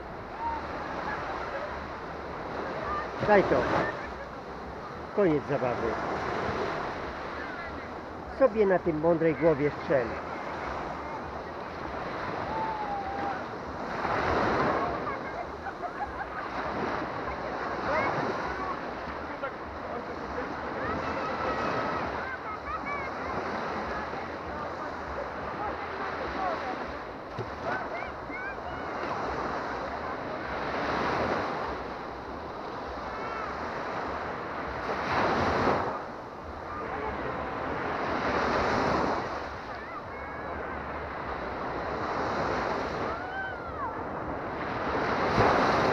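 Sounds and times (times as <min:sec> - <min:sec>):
small waves breaking on shore: 0:00.0 - 0:45.9.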